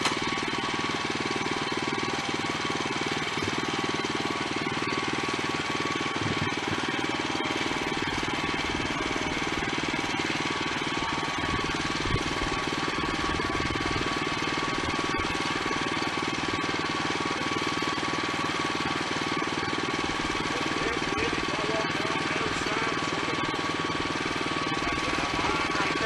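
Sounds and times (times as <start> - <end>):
band sawmill engine running: 0.0 - 26.0.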